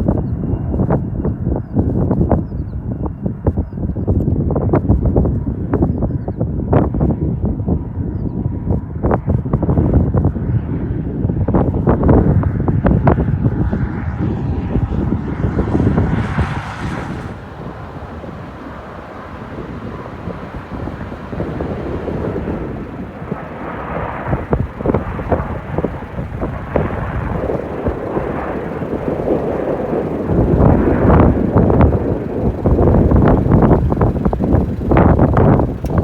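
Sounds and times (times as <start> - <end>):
jet airliner rumble: 0.0 - 36.0
wind buffeting microphone: 0.0 - 36.0.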